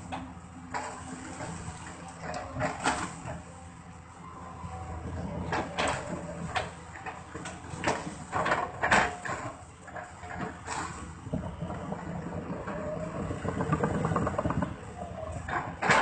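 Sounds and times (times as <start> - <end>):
excavator engine humming: 0.0 - 16.0.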